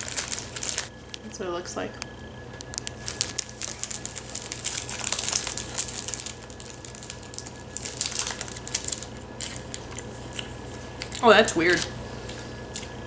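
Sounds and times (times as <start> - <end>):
cellophane wrapper crinkling: 0.0 - 12.9.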